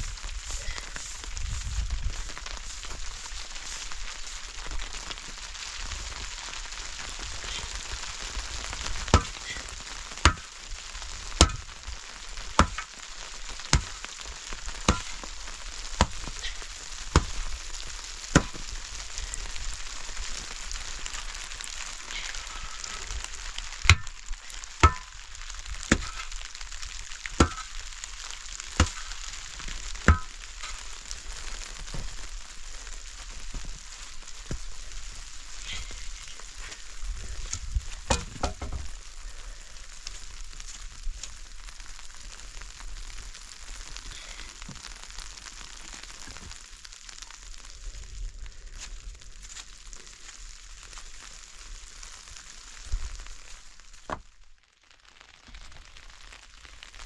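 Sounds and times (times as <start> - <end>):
sizzling hiss: 0.0 - 54.1.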